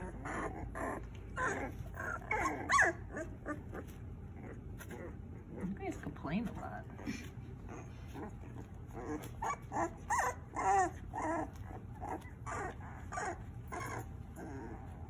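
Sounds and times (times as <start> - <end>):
puppies whining and yelping: 0.0 - 15.0.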